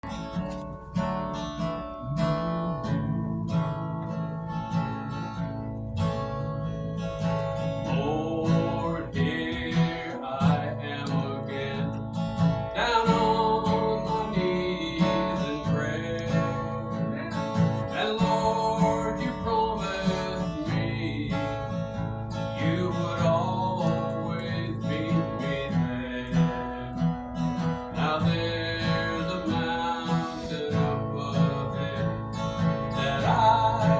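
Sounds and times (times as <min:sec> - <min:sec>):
acoustic guitar strumming: 0:00.0 - 0:33.9
bending guitar melody: 0:00.0 - 0:33.9.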